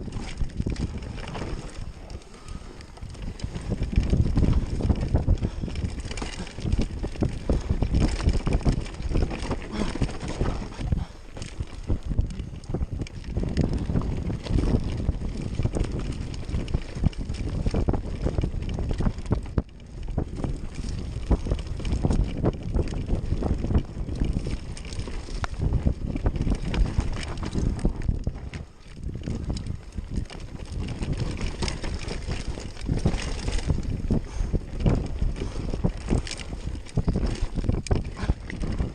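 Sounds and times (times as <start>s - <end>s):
bicycle rattling on rough trail: 0.0s - 38.9s
wind buffeting microphone: 0.0s - 38.9s.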